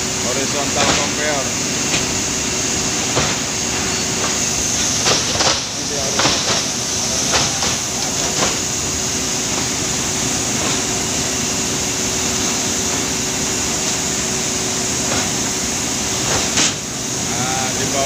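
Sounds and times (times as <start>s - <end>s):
chain scraper conveyor running: 0.0s - 18.0s
loud machinery noise: 0.0s - 18.0s
steady hum: 0.0s - 18.0s.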